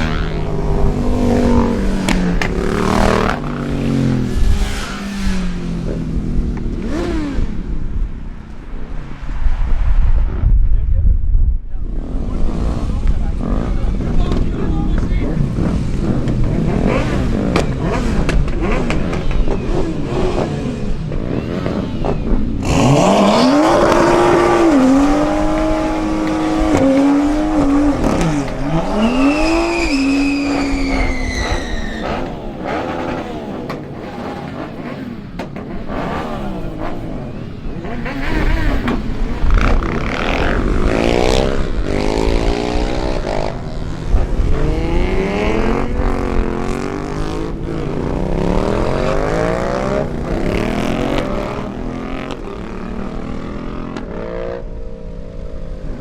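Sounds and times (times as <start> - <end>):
car engines revving: 0.0 - 10.6, 11.6 - 56.0.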